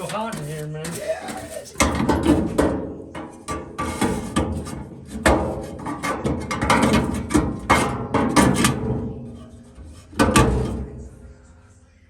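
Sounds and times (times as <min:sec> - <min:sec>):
tools and metal parts clattering: 0:00.0 - 0:10.8.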